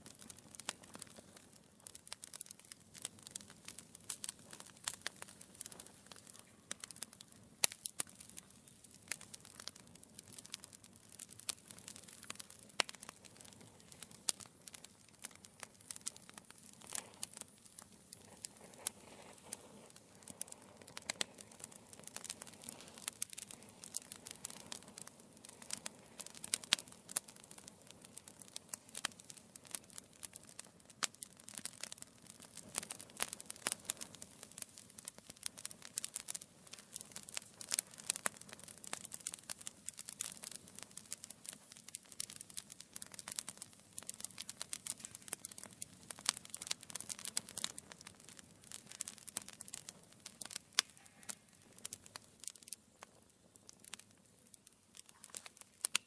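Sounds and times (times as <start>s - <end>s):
burning logs crackling and popping: 0.0s - 56.0s
fire hissing: 0.0s - 56.0s.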